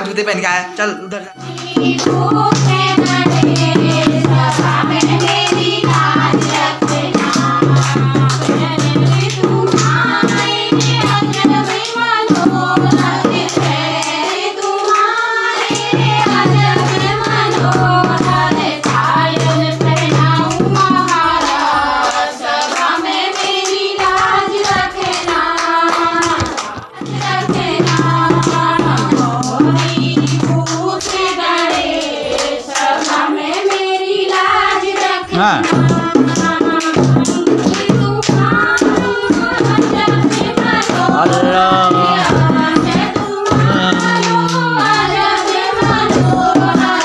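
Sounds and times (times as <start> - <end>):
drum beat: 1.4 - 47.0
hand clapping: 1.4 - 47.0
women singing together: 1.4 - 47.0.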